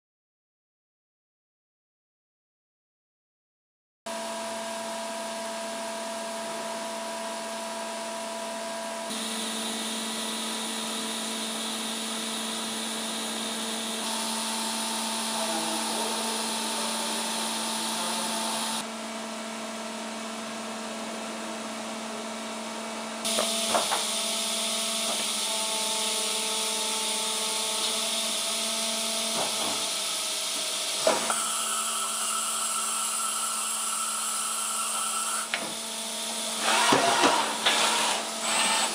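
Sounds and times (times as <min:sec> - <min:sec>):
machine hum with whining tones: 0:04.1 - 0:38.9.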